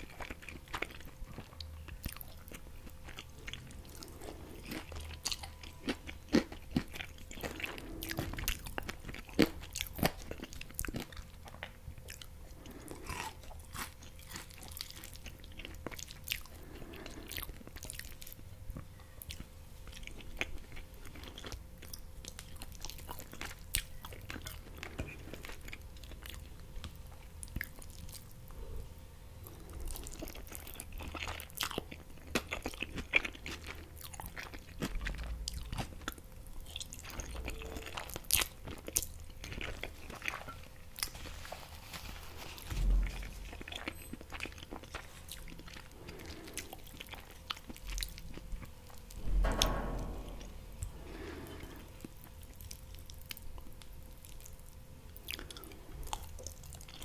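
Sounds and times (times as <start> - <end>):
close chewing with mouth clicks: 0.0 - 28.6, 29.4 - 49.2, 51.1 - 57.0.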